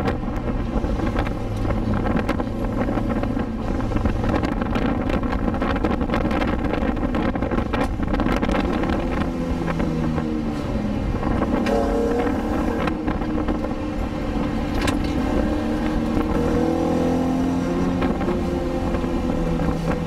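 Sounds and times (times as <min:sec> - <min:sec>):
car engine: 0:00.0 - 0:20.0
wind noise: 0:00.0 - 0:20.0.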